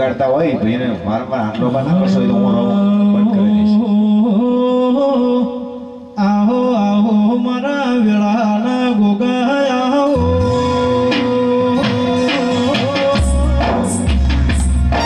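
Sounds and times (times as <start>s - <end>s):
person singing ornamented melody: 1.8s - 14.1s.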